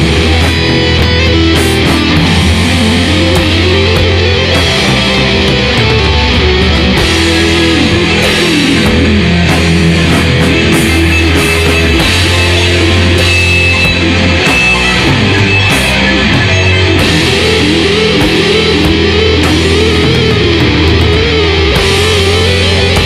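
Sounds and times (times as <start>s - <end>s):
distorted electric guitar riffing: 0.0s - 23.0s
heavy metal band playing: 0.0s - 23.0s.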